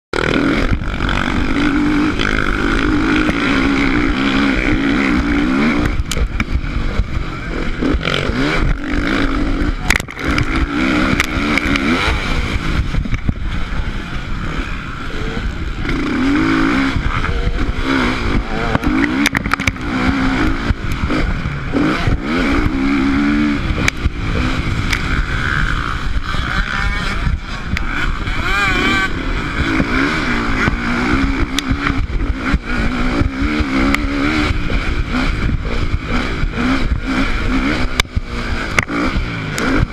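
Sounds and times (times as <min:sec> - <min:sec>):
motocross bike engine revving: 0:00.2 - 0:39.9
wind noise: 0:00.2 - 0:39.9.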